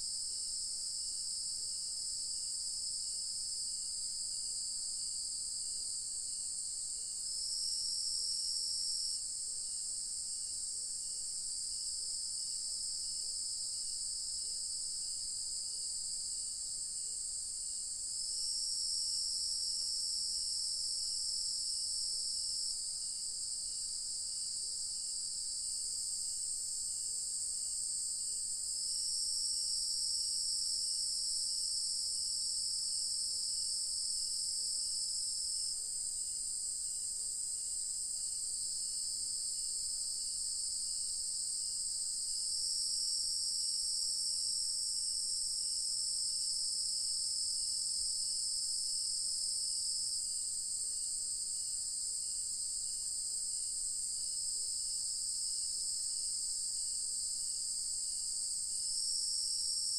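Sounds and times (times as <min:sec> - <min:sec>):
faint low insect chirp: 0:00.0 - 0:59.9.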